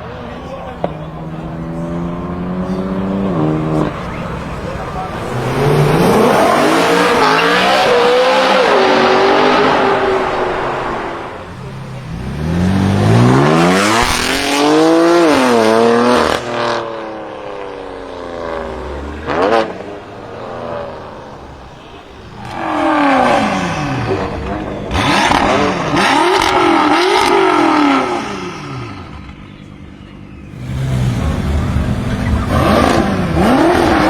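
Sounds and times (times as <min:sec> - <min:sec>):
car engines revving and accelerating: 0:00.0 - 0:34.0.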